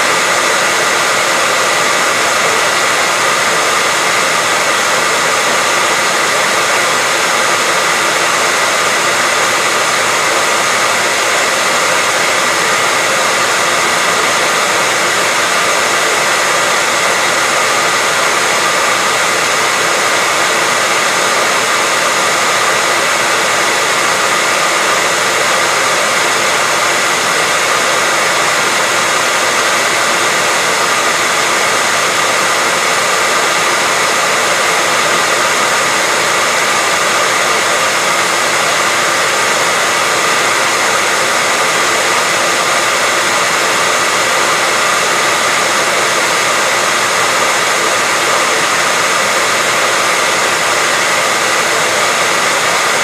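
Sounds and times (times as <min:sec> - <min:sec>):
hair dryer blowing air: 0:00.0 - 0:53.0.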